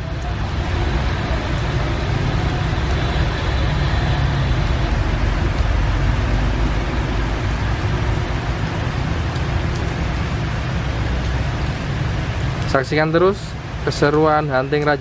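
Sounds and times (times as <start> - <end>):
car passing in rain: 0.0 - 15.0
heavy rain pouring: 0.0 - 15.0.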